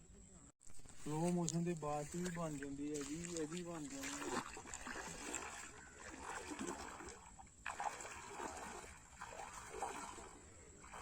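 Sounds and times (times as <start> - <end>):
water splashing and trickling: 0.6 - 11.0.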